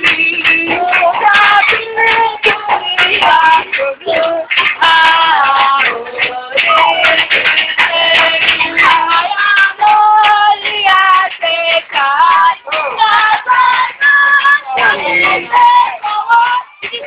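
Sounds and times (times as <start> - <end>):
high voices singing: 0.0 - 17.0.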